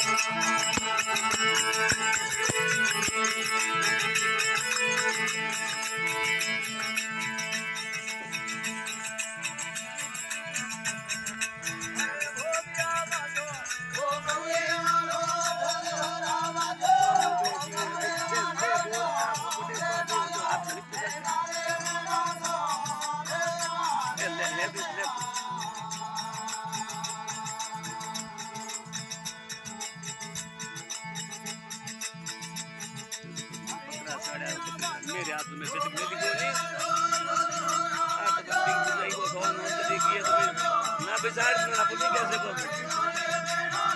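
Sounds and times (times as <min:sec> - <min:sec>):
wavering melody: 0:00.0 - 0:28.4, 0:33.5 - 0:43.9
fast rattling beat: 0:00.0 - 0:28.8, 0:33.0 - 0:43.9
folk devotional music: 0:00.0 - 0:43.9.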